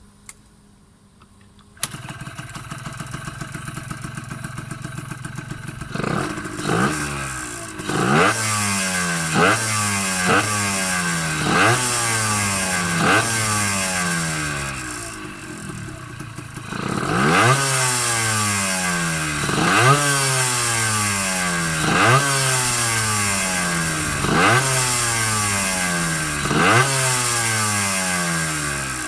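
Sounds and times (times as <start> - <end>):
two-stroke motorcycle engine revving: 1.8 - 29.0.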